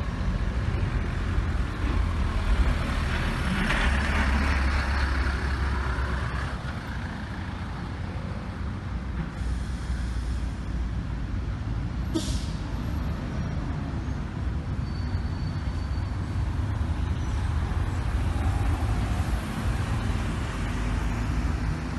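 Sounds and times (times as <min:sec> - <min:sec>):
road traffic rumble: 0:00.0 - 0:21.9.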